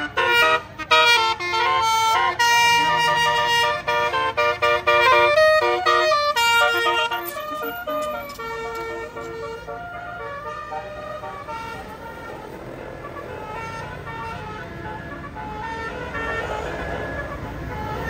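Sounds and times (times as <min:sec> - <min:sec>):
musical air horn tune: 0:00.0 - 0:18.0.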